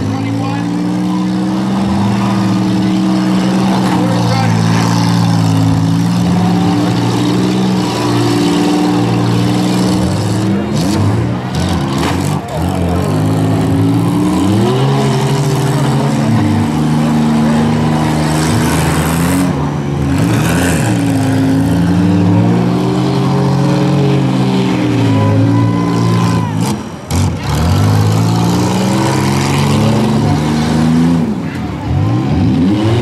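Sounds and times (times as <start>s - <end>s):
minivan engines revving hard: 0.0s - 33.0s.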